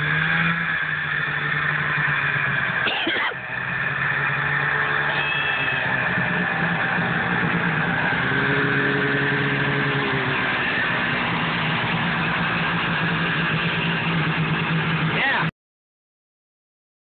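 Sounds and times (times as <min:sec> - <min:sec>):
snowmobile engine running: 0:00.0 - 0:15.5.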